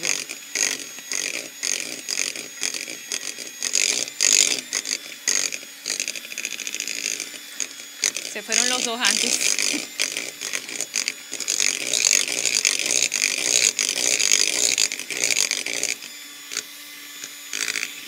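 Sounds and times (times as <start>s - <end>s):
beaters scraping bowl: 0.0s - 18.0s
electric hand mixer whining: 0.0s - 18.0s.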